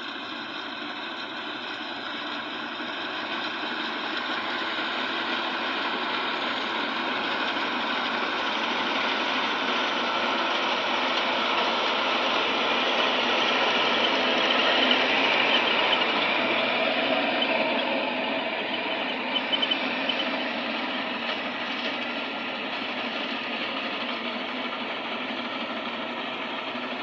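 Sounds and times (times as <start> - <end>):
combine harvester working: 0.0 - 27.0.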